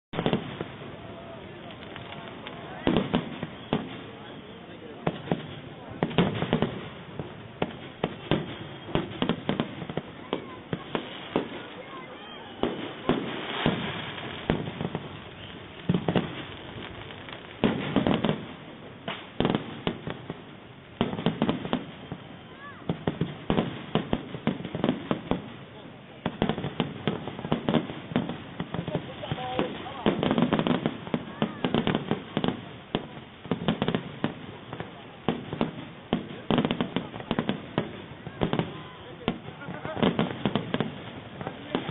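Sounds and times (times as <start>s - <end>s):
fireworks crackling: 0.1s - 41.9s.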